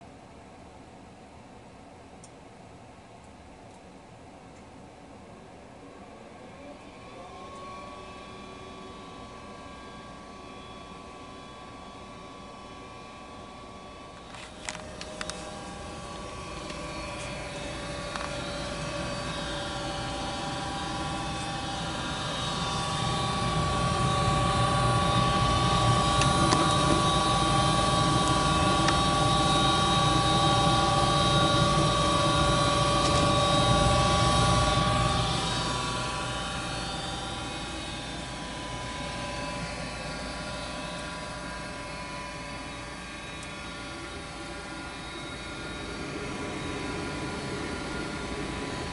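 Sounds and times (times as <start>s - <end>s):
furnace motor humming: 1.7s - 48.9s
motor whine: 6.2s - 48.9s.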